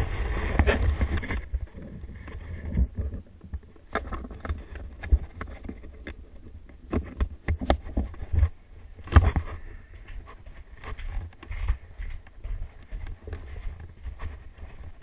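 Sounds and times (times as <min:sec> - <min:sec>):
low rumble on microphone: 0:00.0 - 0:15.0.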